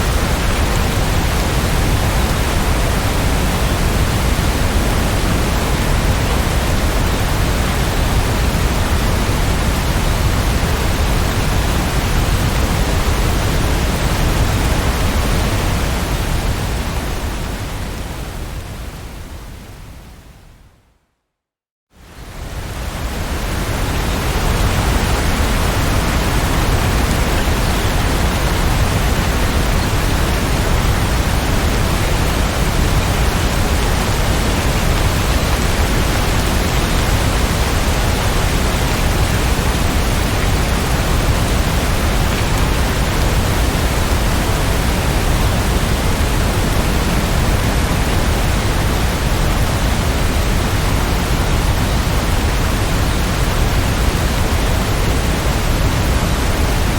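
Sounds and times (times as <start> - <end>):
heavy rain hiss: 0.0 - 20.2, 22.0 - 56.9.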